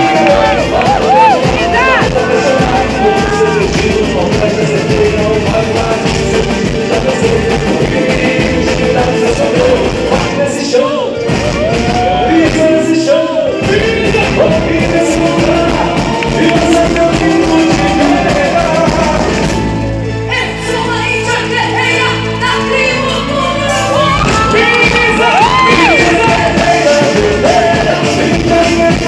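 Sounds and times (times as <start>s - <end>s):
loud amplified band music: 0.0s - 29.0s
person singing: 0.0s - 29.0s.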